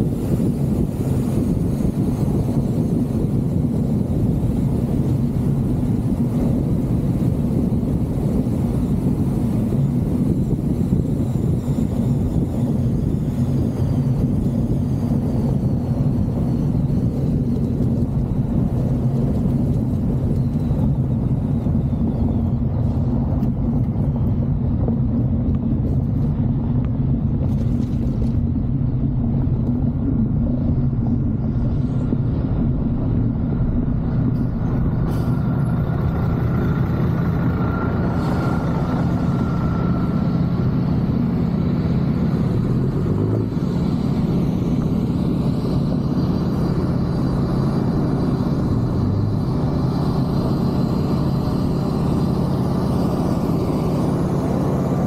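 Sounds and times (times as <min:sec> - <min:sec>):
vehicle driving on gravel: 0:00.0 - 0:55.0.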